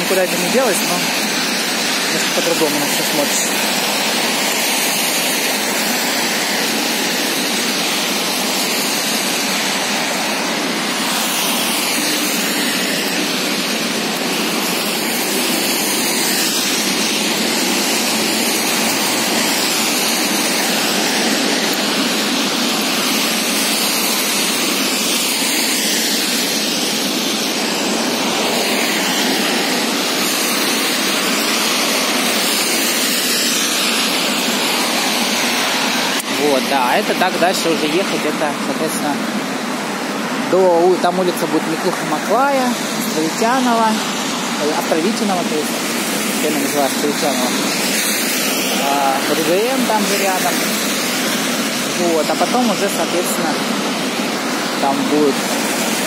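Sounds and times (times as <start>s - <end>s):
traffic on wet road: 0.0s - 56.0s.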